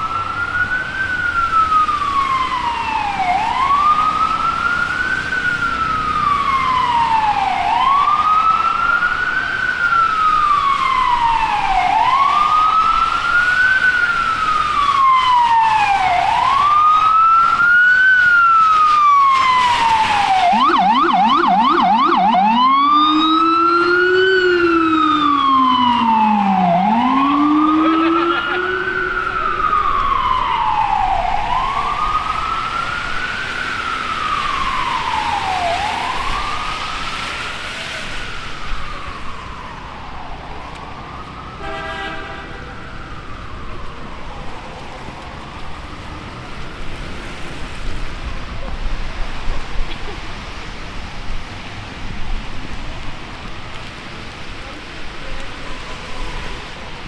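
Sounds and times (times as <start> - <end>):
emergency siren wailing: 0.0 - 57.0
lower siren wail: 0.0 - 57.0.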